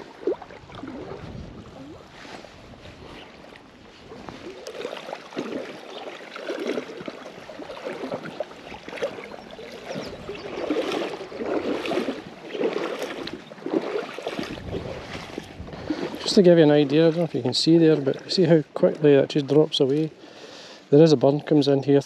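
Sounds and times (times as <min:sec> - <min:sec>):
footsteps on shore: 0:00.0 - 0:21.8.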